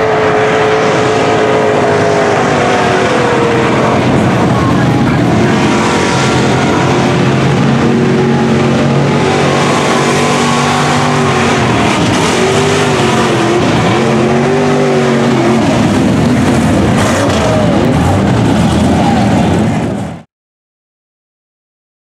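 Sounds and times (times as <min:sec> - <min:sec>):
truck engines revving hard: 0:00.0 - 0:20.3.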